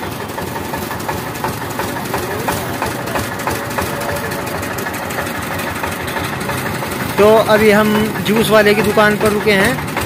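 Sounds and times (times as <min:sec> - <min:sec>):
juice crusher engine running: 0:00.0 - 0:10.0.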